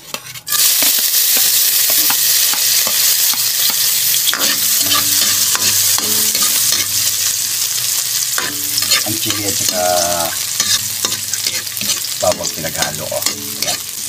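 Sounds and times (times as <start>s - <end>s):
garlic sizzling in oil: 0.0s - 14.0s
metal spatula scraping a pan: 0.0s - 14.0s.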